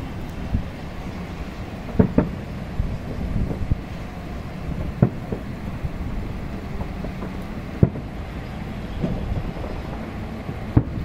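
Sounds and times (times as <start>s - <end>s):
distant fireworks booming: 0.0s - 11.0s.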